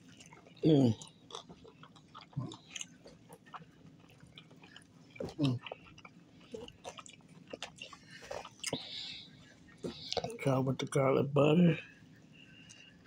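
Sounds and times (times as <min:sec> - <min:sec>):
wet chewing clicks and smacks: 0:00.0 - 0:10.5.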